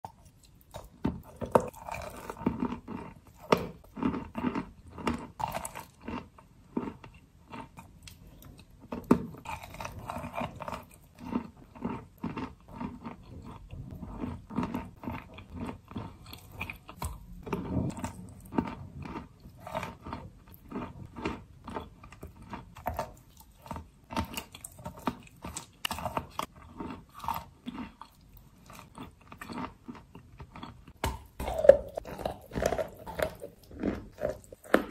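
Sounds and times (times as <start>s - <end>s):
person chewing chalk paste: 0.0s - 34.9s.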